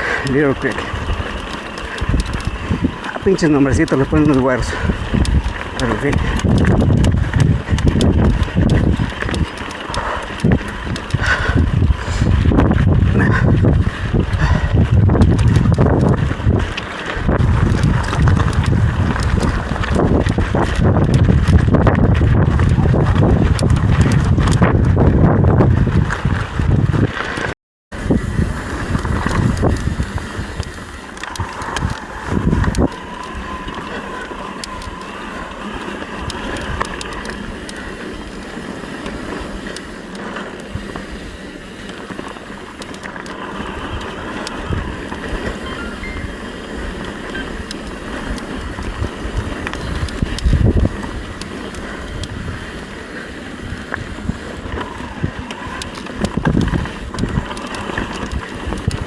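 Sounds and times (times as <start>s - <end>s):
bike rattling and knocking: 0.0s - 59.0s
bike tyre noise on trail: 0.0s - 59.0s
wind buffeting microphone: 0.0s - 59.0s.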